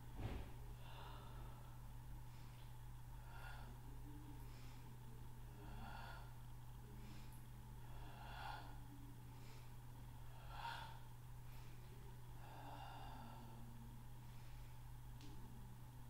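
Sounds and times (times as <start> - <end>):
faint low hum: 0.0 - 16.0
person breathing: 0.2 - 15.6.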